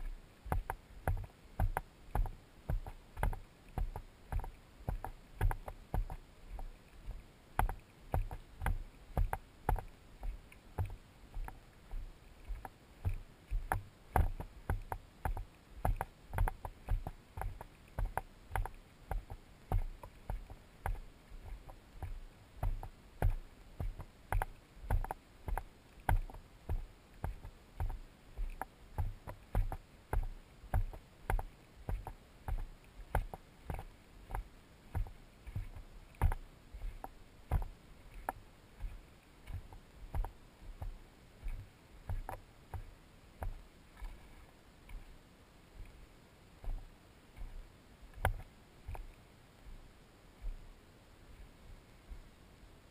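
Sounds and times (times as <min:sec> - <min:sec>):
footsteps on stony dirt trail: 0:00.0 - 0:44.2.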